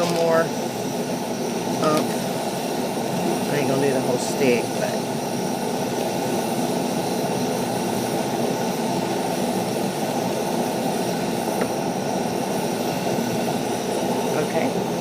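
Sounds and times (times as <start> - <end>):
camp stove burner rushing: 0.0 - 15.0.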